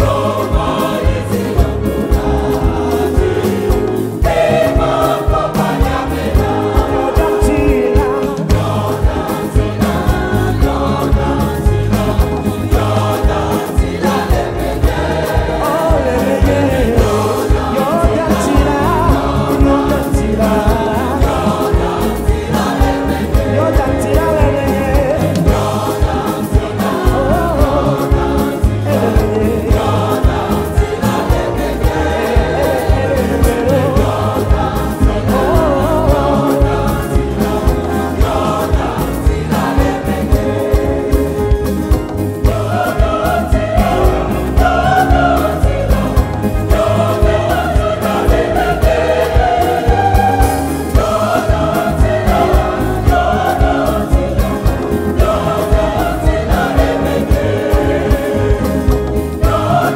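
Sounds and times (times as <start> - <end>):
choir singing: 0.0 - 59.9
drums with steady beat: 0.0 - 59.9
keyboards: 0.0 - 59.9.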